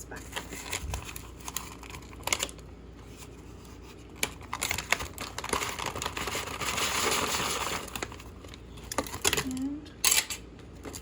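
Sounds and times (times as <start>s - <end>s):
plastic bag crinkling: 0.1s - 10.2s.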